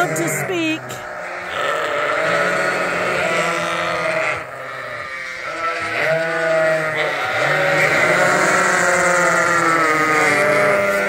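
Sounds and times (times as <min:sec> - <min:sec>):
sheep bleating: 0:00.0 - 0:11.0.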